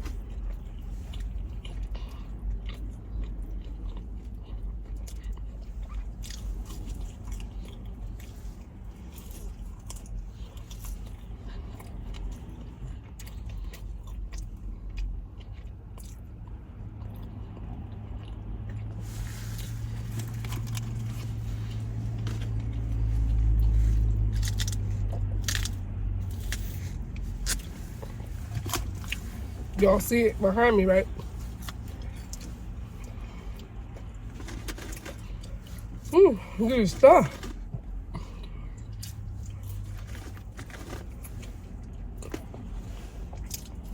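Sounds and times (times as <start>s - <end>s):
chewing crunchy fried food: 0.0s - 30.1s, 31.0s - 36.2s, 36.9s - 43.9s.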